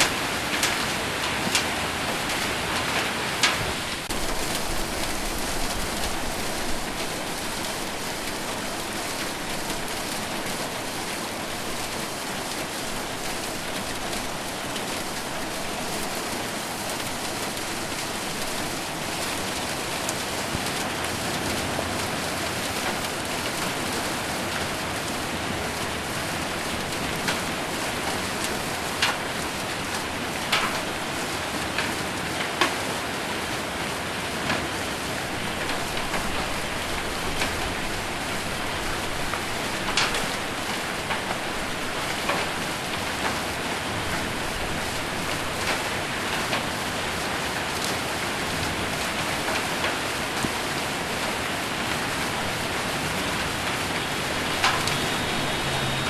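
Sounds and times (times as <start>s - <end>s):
hail strikes: 0.0s - 56.0s
heavy rain on a roof: 0.0s - 56.0s.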